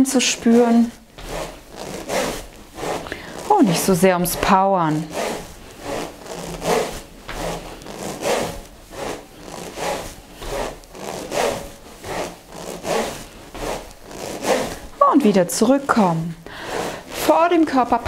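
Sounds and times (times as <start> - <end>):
rushing swish of swung rings: 0.0 - 15.0.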